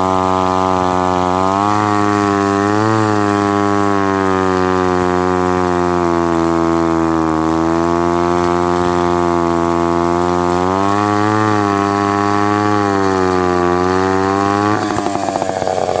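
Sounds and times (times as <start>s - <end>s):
chainsaw engine cutting wood: 0.0s - 16.0s.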